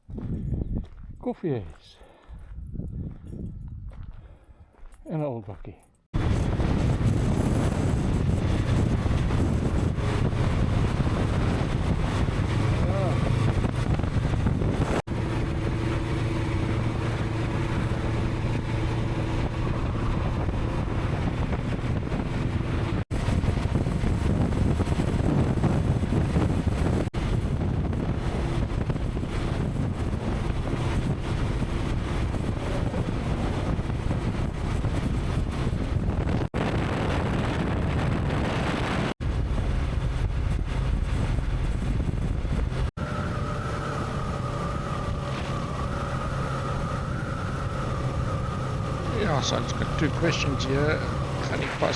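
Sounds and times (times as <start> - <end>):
wind rushing over microphone: 0.0 - 1.7, 2.3 - 4.8, 6.2 - 51.9.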